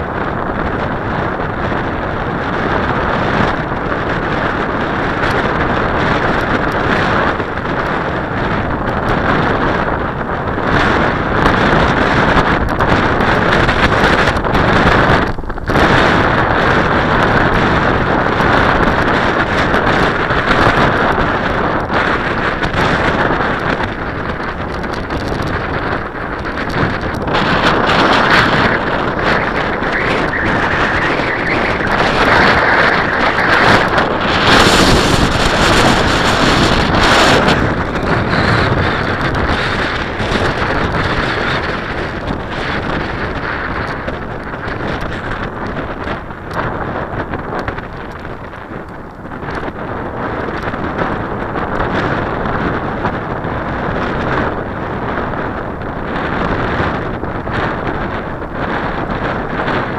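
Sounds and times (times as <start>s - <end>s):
gusty wind buffeting microphone: 0.0s - 59.9s.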